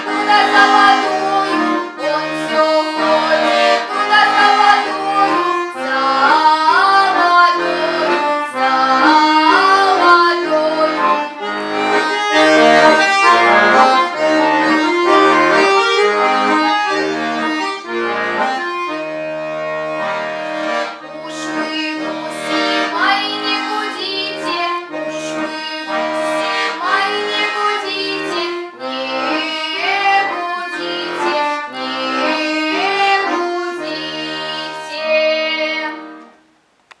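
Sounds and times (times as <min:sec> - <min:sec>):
girl singing: 0:00.0 - 0:17.6, 0:21.0 - 0:36.2
accordion: 0:00.0 - 0:37.0.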